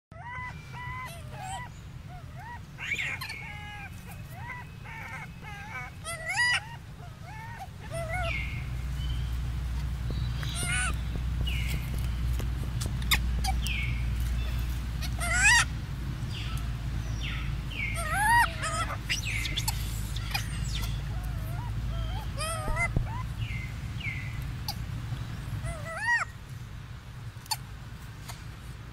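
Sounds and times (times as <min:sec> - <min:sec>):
monkeys calling: 0:00.1 - 0:26.6, 0:27.2 - 0:28.5
steady low hum: 0:00.1 - 0:28.9
steady low rumble: 0:00.5 - 0:28.9.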